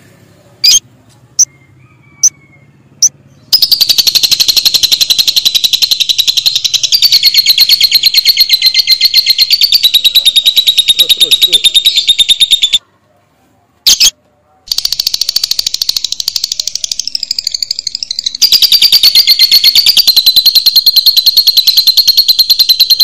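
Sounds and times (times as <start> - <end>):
bird chirping and trilling: 0.6 - 0.8, 1.4 - 12.8, 14.7 - 23.0.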